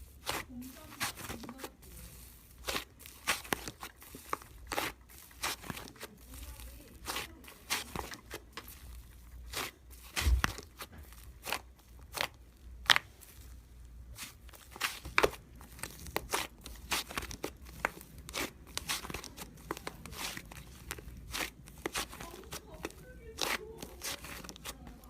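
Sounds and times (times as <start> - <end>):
crinkling handling noises: 0.0 - 25.0.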